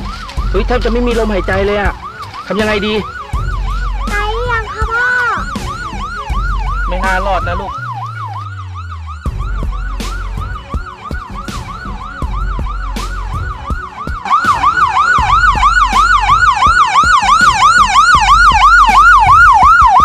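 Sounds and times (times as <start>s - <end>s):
emergency siren yelping: 0.0s - 20.0s.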